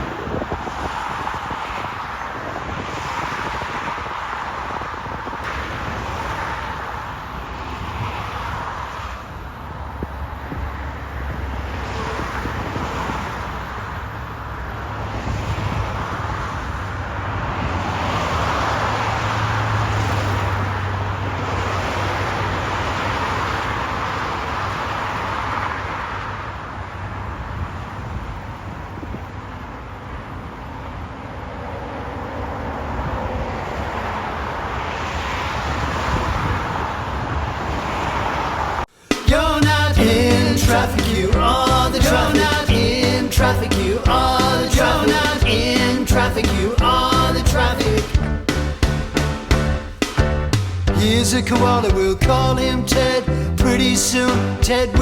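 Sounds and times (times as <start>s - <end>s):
passing vehicles: 0.0s - 55.0s.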